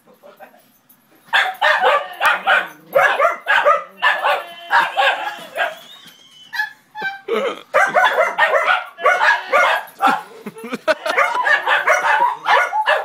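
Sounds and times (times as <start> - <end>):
puppies barking rapidly: 1.3 - 13.0.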